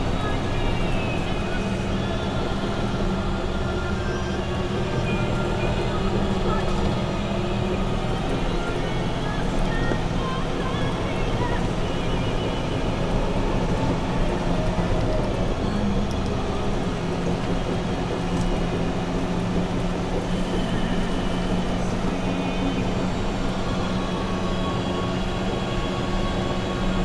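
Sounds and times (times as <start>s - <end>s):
bulldozer diesel engine drone: 0.0s - 27.0s
heavy machine rumble: 0.0s - 27.0s.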